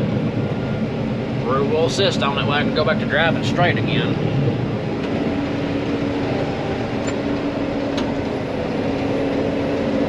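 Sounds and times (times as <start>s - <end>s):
combine harvester droning: 0.0s - 10.0s.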